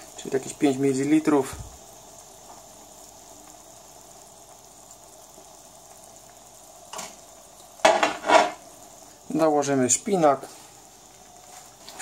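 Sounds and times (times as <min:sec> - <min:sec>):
sauce simmering in a frying pan: 0:00.0 - 0:12.0.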